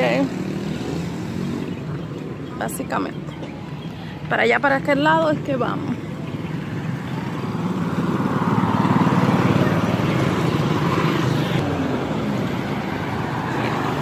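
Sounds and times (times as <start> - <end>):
motorcycles passing: 0.0 - 14.0.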